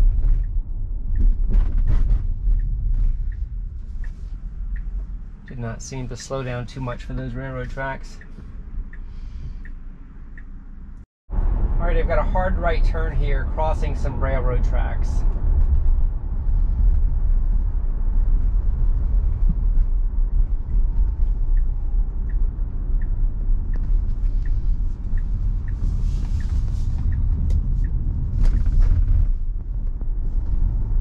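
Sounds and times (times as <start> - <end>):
turn signal ticking: 0.0 - 11.0, 11.9 - 31.0
road and tyre rumble in car: 0.0 - 31.0.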